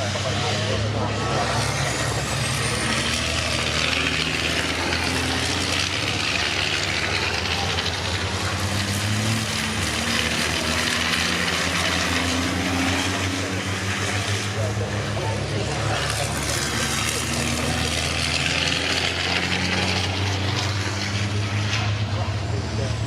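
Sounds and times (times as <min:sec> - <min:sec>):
truck diesel engines passing: 0:00.0 - 0:23.0.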